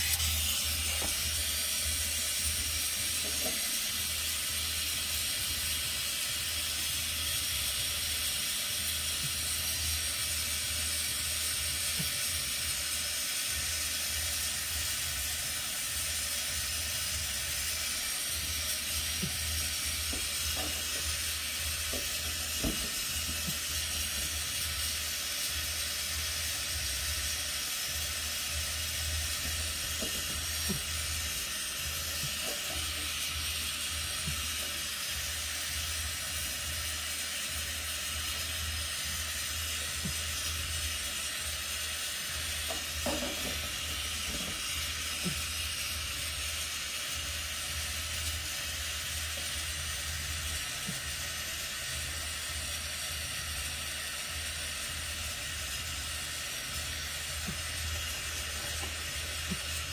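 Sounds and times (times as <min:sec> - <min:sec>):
brazing torch hissing: 0:00.0 - 0:59.9.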